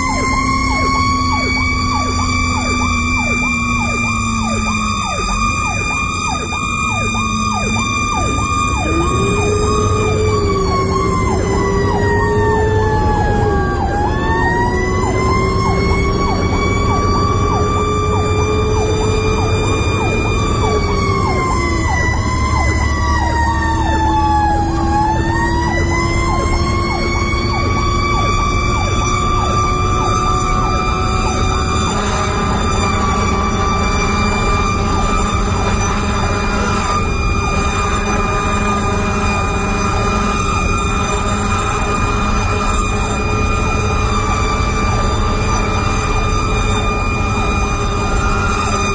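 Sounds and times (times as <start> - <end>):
engine and road noise: 0.0 - 48.9
siren wail: 0.0 - 48.9
siren yelp: 0.0 - 48.9.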